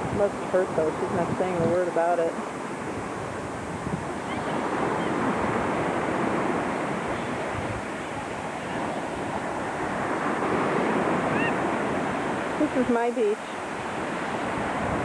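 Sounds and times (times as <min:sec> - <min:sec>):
ocean surf washing ashore: 0:00.0 - 0:15.0
wind on the microphone: 0:00.0 - 0:15.0.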